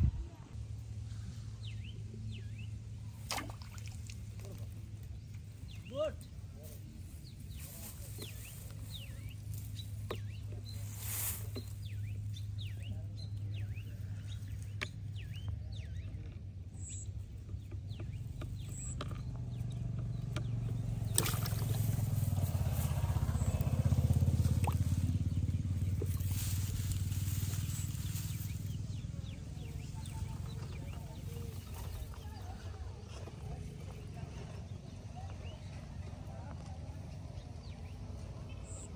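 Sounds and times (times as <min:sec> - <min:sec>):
low engine hum: 0:00.0 - 0:38.9
small birds chirping: 0:01.0 - 0:38.9.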